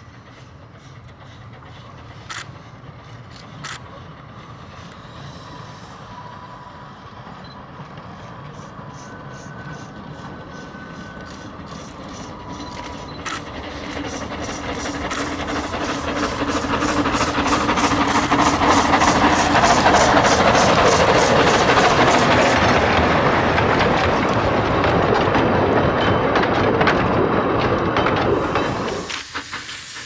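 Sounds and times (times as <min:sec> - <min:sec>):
small steam train running: 0:00.0 - 0:30.0.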